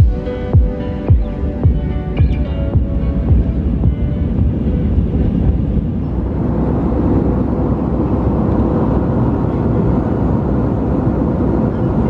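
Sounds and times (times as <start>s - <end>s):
engine and airflow rush: 0.0s - 12.0s
faint steady hum: 0.0s - 12.0s.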